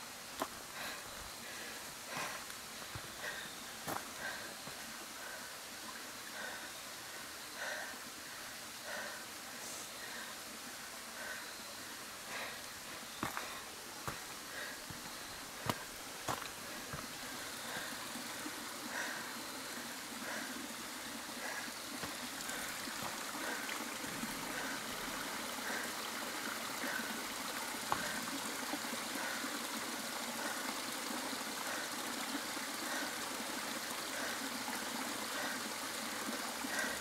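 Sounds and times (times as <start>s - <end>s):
mountain stream rushing: 0.0s - 37.0s.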